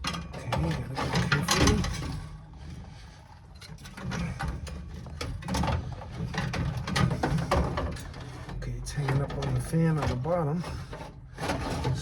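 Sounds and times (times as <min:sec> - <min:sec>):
metal scraping: 0:00.0 - 0:12.0.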